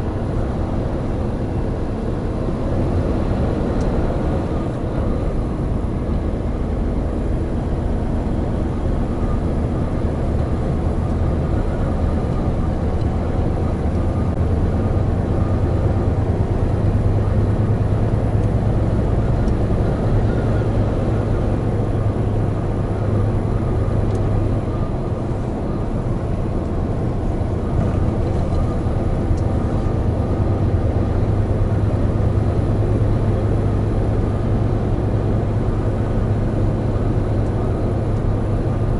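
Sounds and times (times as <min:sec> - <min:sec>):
road noise: 0:00.0 - 0:38.9
truck diesel engine droning: 0:00.0 - 0:38.9.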